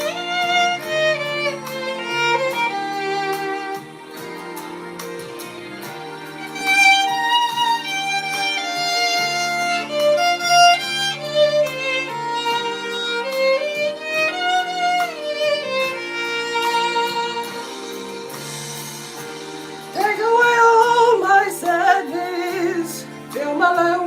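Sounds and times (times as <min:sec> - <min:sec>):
lead melody line: 0:00.0 - 0:24.0.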